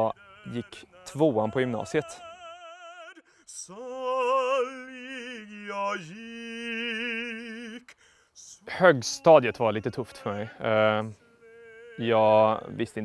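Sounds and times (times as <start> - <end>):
man singing opera unaccompanied: 0.0 - 13.0.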